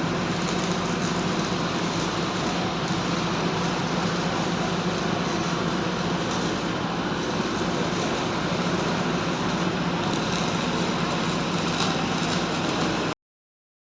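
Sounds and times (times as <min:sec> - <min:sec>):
mechanical rumble and hiss: 0:00.0 - 0:13.2.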